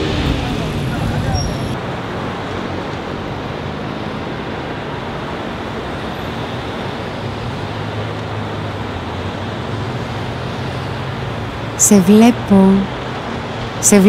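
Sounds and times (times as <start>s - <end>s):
transport noise rumble and hiss: 0.0s - 14.0s.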